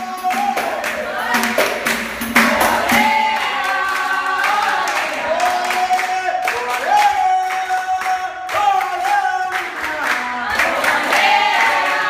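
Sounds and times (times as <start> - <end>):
group singing together: 0.0 - 12.0
hand percussion: 0.0 - 12.0
handclaps: 0.1 - 12.0.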